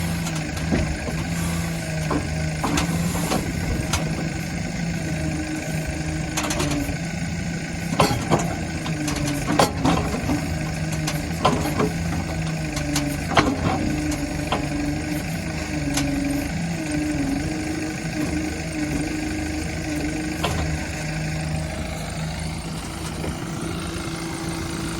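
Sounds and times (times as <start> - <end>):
diesel engine idling: 0.0 - 24.9.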